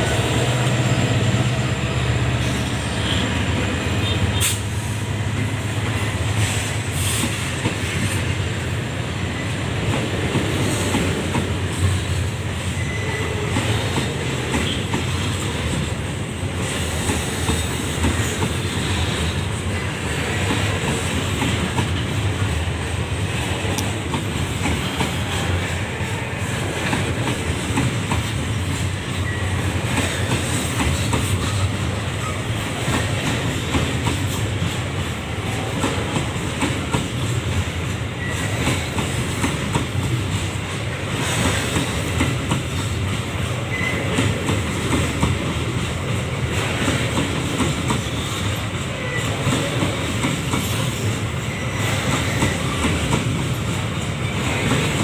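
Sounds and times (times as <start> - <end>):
train wagons rumbling on rails: 0.0 - 55.0.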